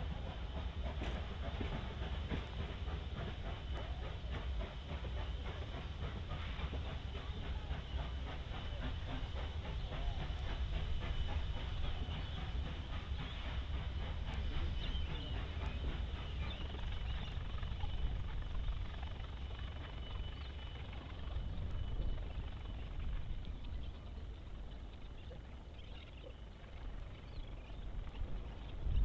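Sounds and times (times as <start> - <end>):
steam locomotive rumbling: 0.0 - 29.0.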